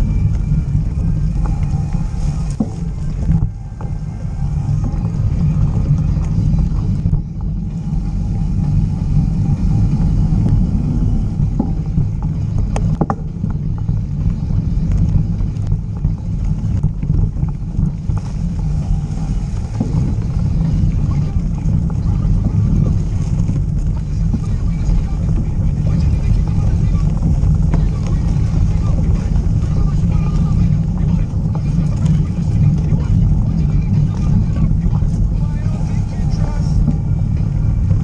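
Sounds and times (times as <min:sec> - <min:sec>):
bike clicks and rattles: 0:00.0 - 0:38.0
bike tyres rolling on dirt: 0:00.0 - 0:38.0
wind buffeting microphone: 0:00.0 - 0:38.0.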